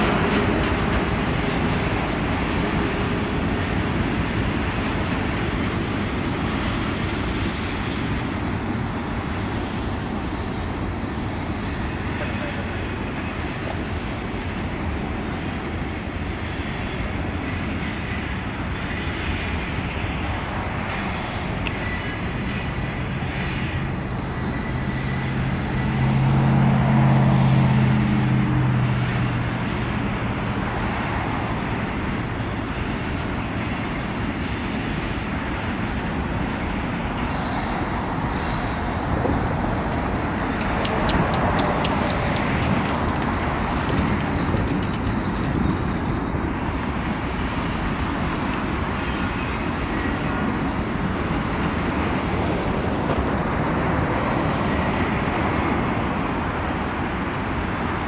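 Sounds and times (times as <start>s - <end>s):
low drone: 0.0s - 58.0s
train wheels rumbling on rail: 0.0s - 58.0s.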